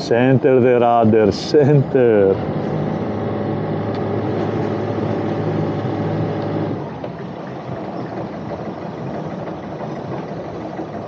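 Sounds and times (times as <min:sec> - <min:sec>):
boat inboard engine humming: 0:00.0 - 0:11.0.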